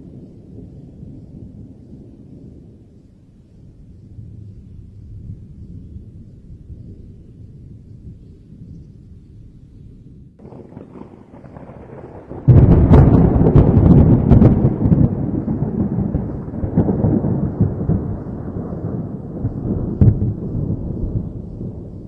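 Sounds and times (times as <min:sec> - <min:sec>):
thunder crack and rumble: 0:00.0 - 0:22.0.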